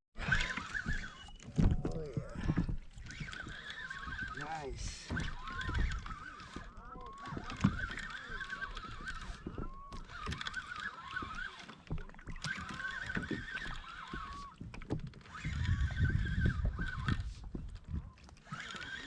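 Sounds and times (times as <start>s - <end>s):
water: 0.2s - 19.0s.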